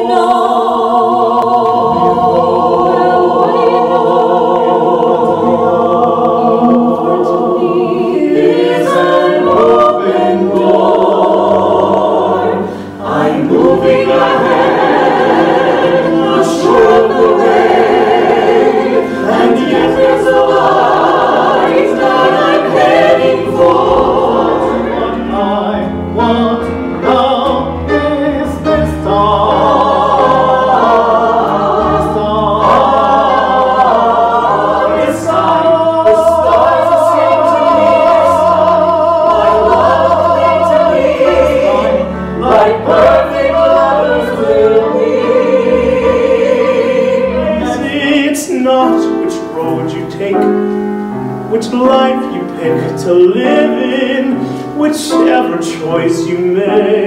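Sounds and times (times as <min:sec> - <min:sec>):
choir singing in harmony: 0:00.0 - 0:57.0
grand piano: 0:00.0 - 0:57.0.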